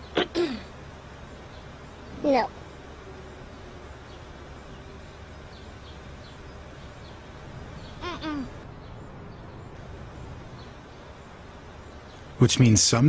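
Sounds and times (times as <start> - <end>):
faint high bird chirps: 0.0 - 12.8.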